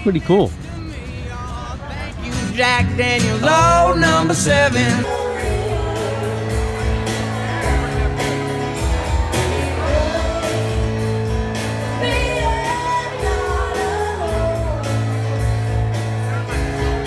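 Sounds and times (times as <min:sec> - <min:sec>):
song with vocals drums and bass: 0:00.0 - 0:17.0.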